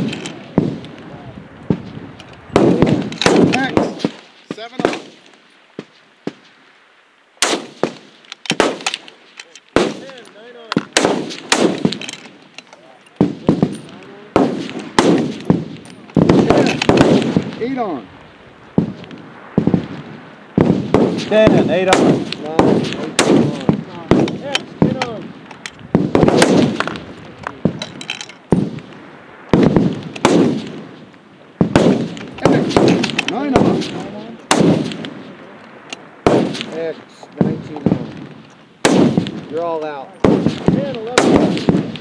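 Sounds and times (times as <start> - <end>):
rifle shots echoing: 0.0 - 1.0, 1.7 - 6.5, 7.4 - 18.1, 18.7 - 42.0.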